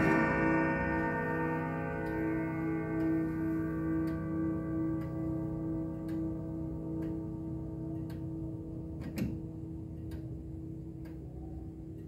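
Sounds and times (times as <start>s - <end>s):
grandfather clock chime ringing: 0.0s - 11.6s
clock ticking faintly: 0.0s - 12.0s.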